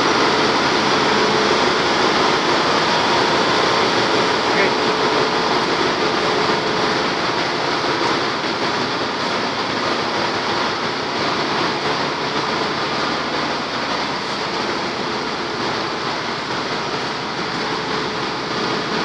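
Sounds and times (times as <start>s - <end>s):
engine room machinery din: 0.0s - 19.0s.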